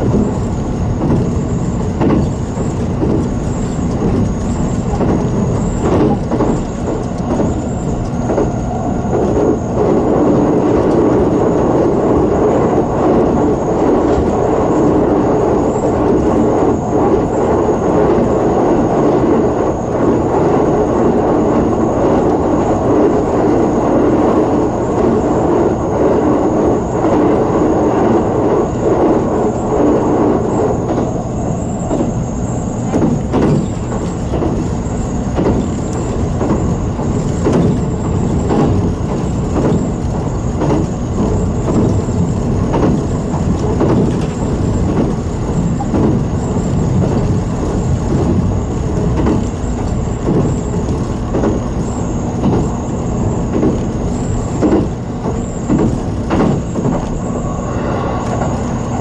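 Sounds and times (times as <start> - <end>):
train wheels rumbling on rail: 0.0 - 59.0
wheels clicking over rail joints: 0.0 - 59.0.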